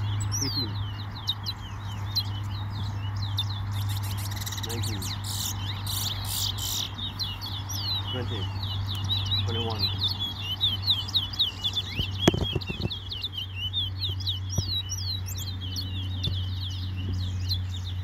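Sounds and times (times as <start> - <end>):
songbirds twittering: 0.0 - 18.0.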